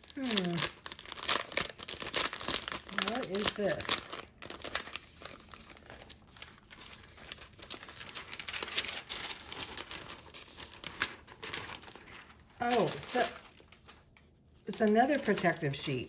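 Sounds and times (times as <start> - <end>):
plastic sheets crinkling: 0.0 - 16.0.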